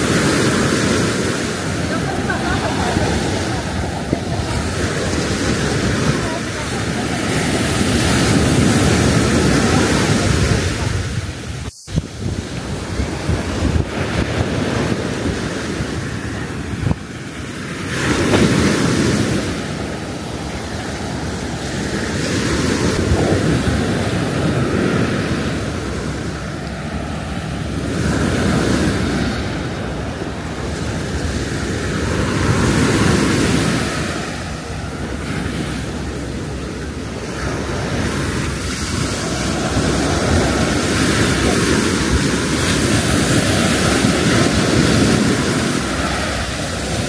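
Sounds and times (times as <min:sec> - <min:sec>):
sea surf washing up beach: 0:00.0 - 0:47.0
wind buffeting microphone: 0:00.0 - 0:47.0.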